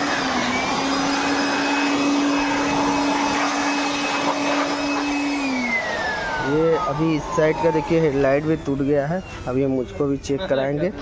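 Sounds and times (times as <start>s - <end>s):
high-speed electric motor whining: 0.0s - 11.0s.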